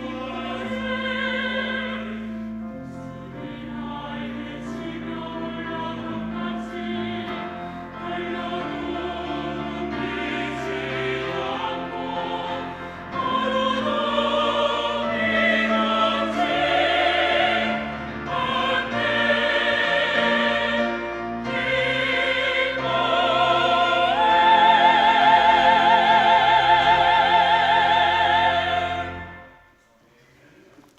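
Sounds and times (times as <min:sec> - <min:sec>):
church choir singing: 0:00.0 - 0:29.8.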